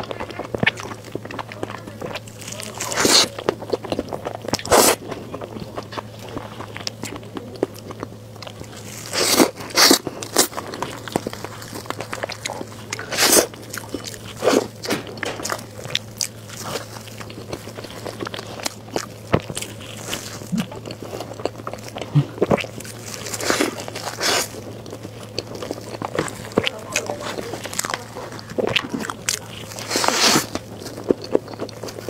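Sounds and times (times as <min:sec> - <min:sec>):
low steady hum: 0:00.0 - 0:32.0
wet smacking and chewing: 0:00.0 - 0:32.0.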